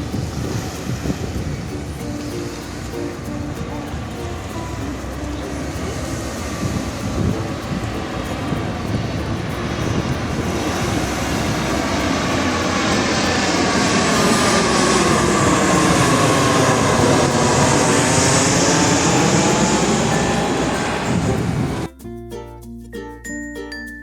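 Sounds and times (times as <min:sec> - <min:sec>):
vehicle in motion: 0:00.0 - 0:21.9.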